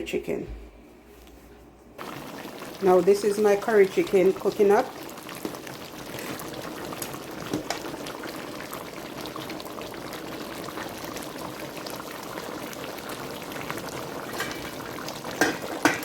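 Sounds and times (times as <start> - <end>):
curry bubbling in pot: 2.0 - 16.0.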